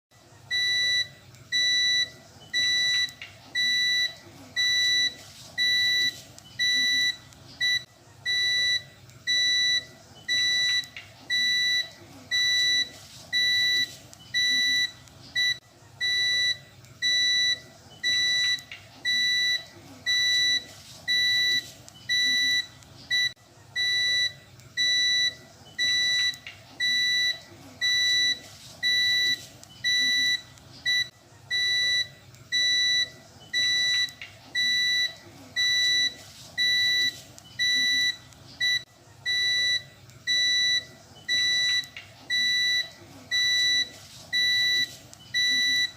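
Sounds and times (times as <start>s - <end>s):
high-pitched alarm beeps: 0.5s - 45.9s.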